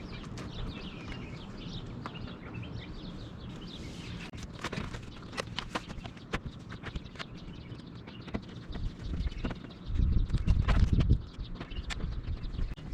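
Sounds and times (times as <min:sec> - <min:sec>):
small birds twittering: 0:00.0 - 0:12.9
steady low hum: 0:00.0 - 0:12.9.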